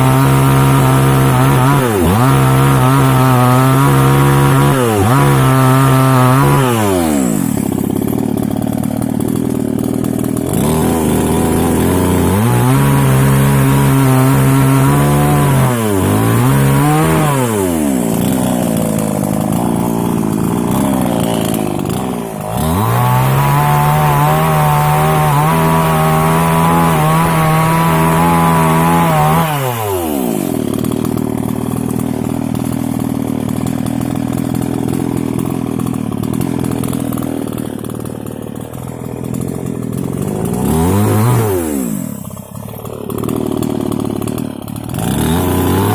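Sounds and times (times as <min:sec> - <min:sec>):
chainsaw revving and idling: 0:00.0 - 0:45.9.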